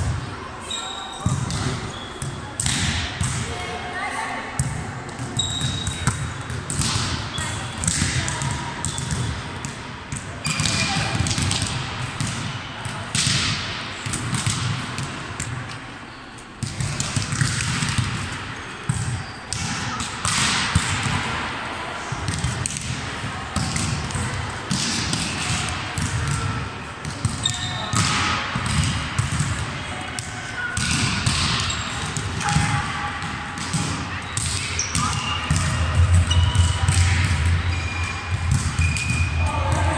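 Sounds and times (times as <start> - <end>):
volleyballs thudding in gym: 1.2 - 3.7, 4.5 - 15.9, 16.6 - 39.9.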